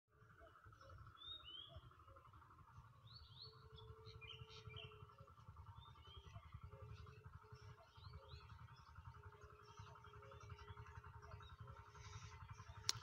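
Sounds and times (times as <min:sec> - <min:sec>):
faint birds chirping: 0:00.1 - 0:13.0.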